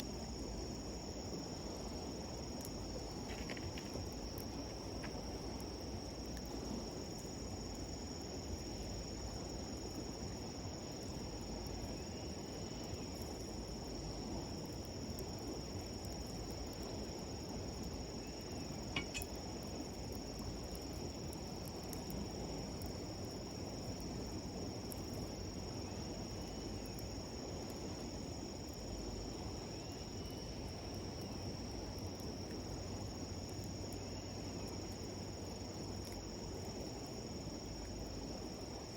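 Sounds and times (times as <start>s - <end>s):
insects trilling: 0.0s - 38.9s
wood fire crackle: 0.0s - 38.9s.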